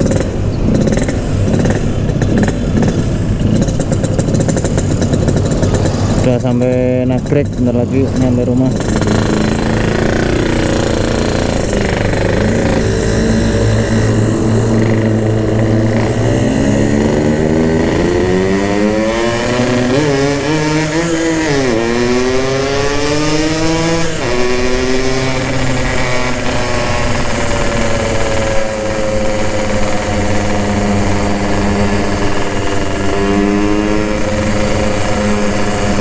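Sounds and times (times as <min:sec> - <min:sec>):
two-stroke motorcycle engine revving: 0:00.0 - 0:36.0.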